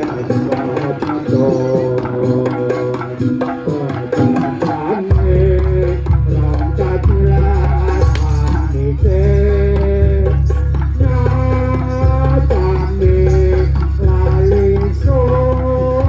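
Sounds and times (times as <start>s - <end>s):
hand drums beating: 0.0s - 16.0s
melodic instrument line: 0.0s - 16.0s.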